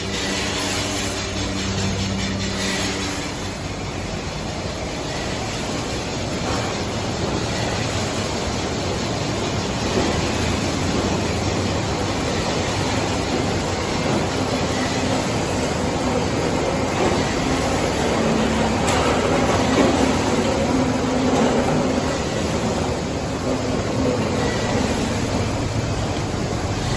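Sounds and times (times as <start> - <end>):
churning aerated water: 0.0 - 26.9.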